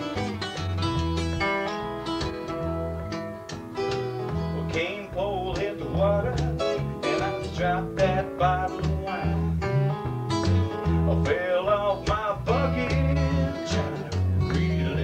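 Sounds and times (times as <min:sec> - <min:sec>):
bending lead guitar melody: 0:00.0 - 0:15.0
live country band playing: 0:00.0 - 0:15.0.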